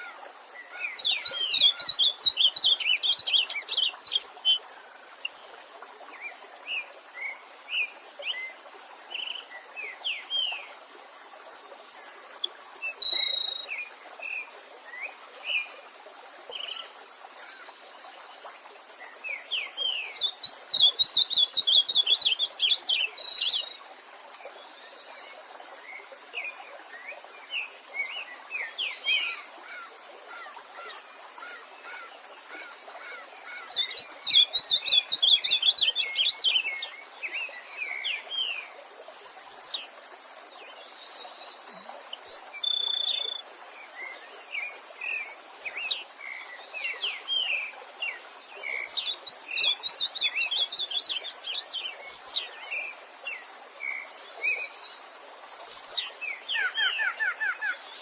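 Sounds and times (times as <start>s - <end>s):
songbirds singing and calling: 0.0s - 10.8s, 11.8s - 15.8s, 16.5s - 40.0s, 40.6s - 58.0s
stream flowing: 0.0s - 58.0s.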